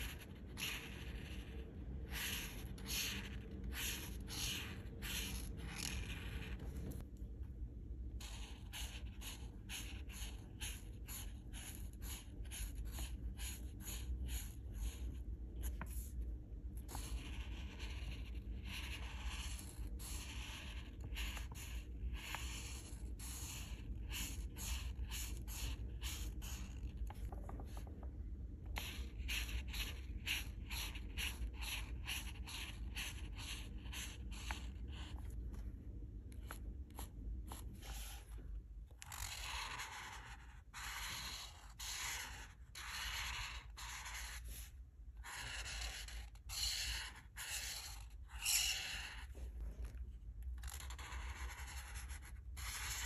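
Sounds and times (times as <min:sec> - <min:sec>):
marker scratching on paper: 0:00.0 - 0:07.0, 0:08.0 - 0:53.0.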